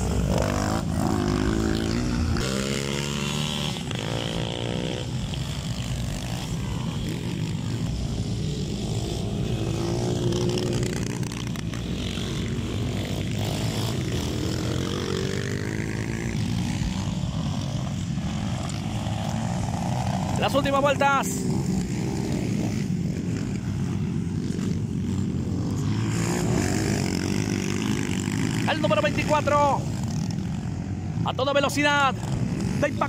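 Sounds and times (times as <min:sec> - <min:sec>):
motocross engines revving: 0:00.0 - 0:33.0.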